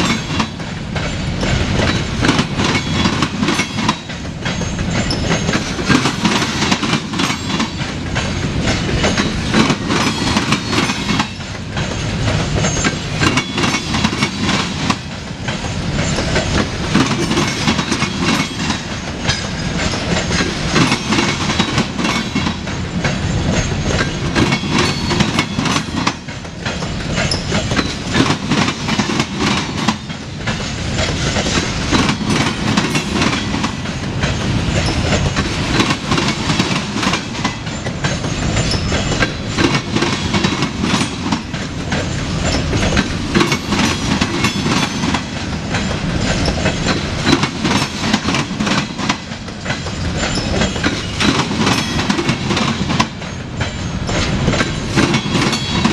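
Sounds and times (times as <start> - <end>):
freight train rumbling past: 0.0 - 55.9
wheels clacking over rail joints: 0.0 - 55.9.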